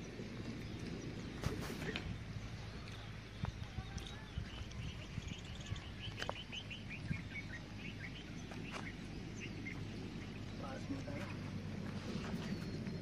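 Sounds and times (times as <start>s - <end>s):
bird chirping rapidly: 0.0s - 13.0s
low outdoor hum: 0.0s - 13.0s.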